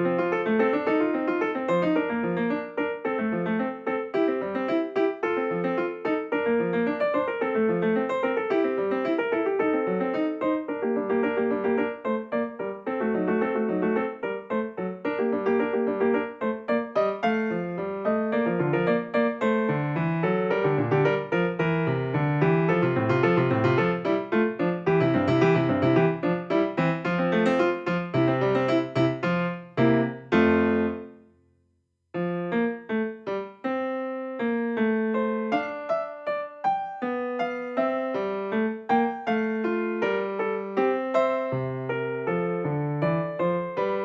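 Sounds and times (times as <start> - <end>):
solo piano music: 0.0 - 44.0.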